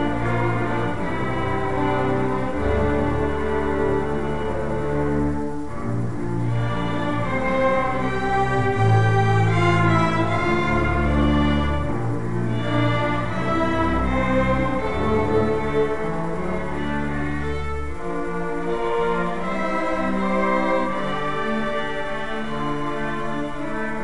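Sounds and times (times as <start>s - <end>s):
cellos bowing: 0.0s - 24.0s
violins bowing: 0.0s - 24.0s.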